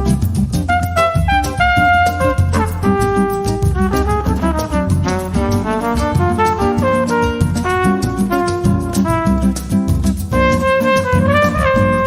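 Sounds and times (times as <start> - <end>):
jazz accompaniment with bass: 0.0 - 12.0
trumpet melody: 0.0 - 12.0.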